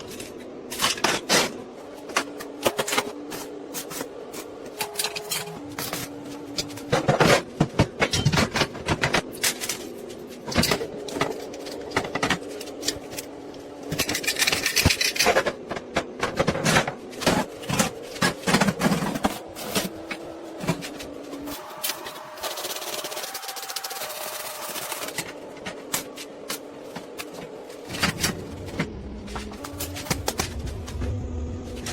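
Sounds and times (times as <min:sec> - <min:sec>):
steady electrical hum: 0:00.0 - 0:31.9.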